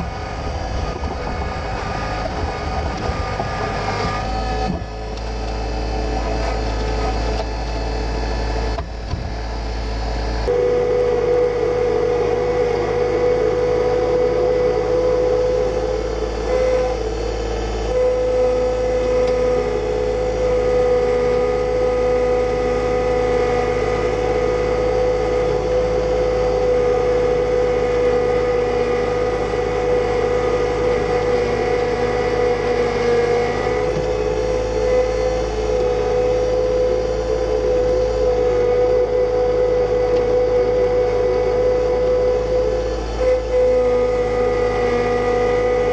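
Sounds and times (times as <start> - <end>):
steady whine: 0.0 - 45.9
tractor diesel engine running: 0.0 - 45.9.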